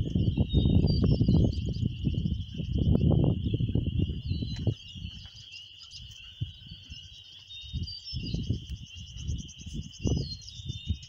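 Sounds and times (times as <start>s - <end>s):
insect chorus: 0.0s - 11.0s
low rumble gusts: 0.0s - 11.0s
pulsing insect trill: 0.0s - 11.0s.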